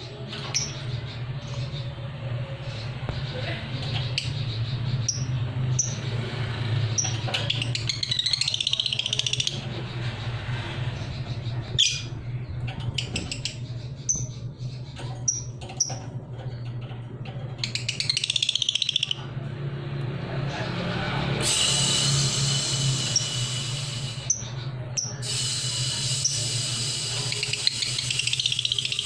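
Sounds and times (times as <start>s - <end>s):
steady low hum: 0.0s - 29.0s
bird trilling chatter: 0.4s - 19.3s, 21.6s - 29.0s.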